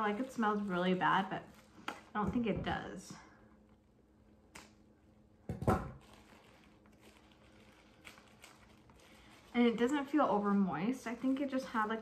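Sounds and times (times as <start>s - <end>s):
plastic wrap handling noises: 0.0s - 3.0s, 3.6s - 12.0s.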